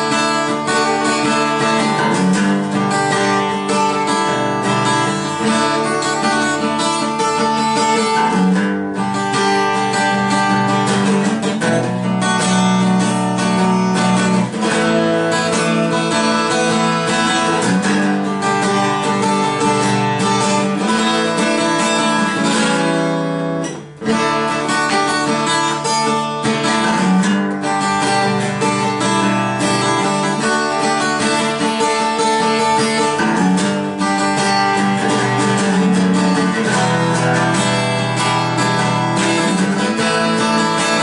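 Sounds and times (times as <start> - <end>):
acoustic guitar strummed: 0.0 - 41.0.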